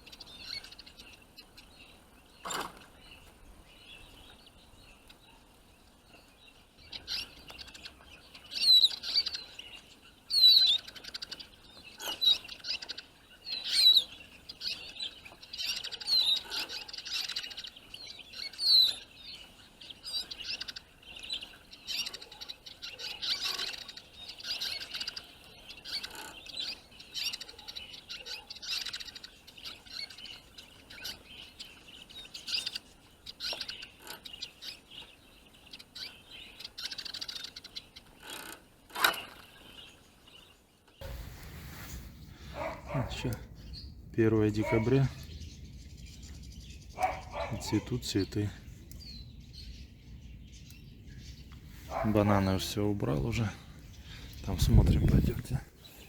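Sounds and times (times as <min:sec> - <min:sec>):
finches chirping and twittering: 0:00.0 - 0:56.0.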